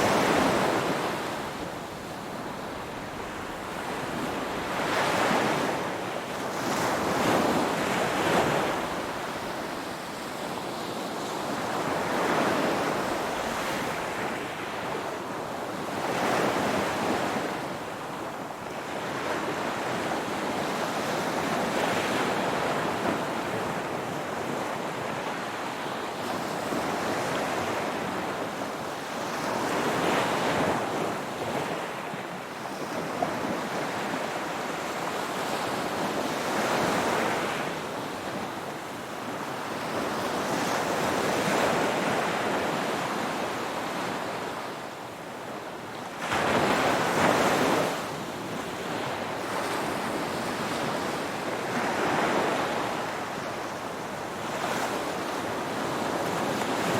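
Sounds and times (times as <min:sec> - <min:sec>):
ocean waves washing ashore: 0:00.0 - 0:56.9.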